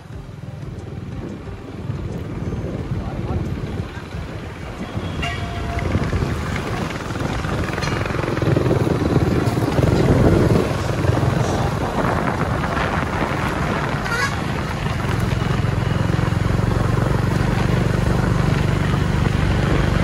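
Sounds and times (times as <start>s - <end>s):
motorcycle engine rumble: 0.0s - 20.0s.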